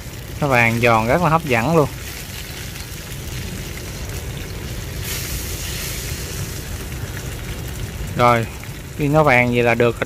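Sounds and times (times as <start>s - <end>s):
food sizzling in hot oil: 0.0s - 10.0s
low steady rumble: 0.0s - 10.0s.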